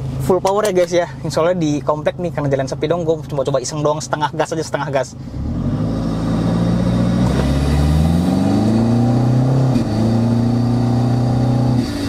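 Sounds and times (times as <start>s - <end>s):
diesel engine accelerating: 0.0s - 12.0s.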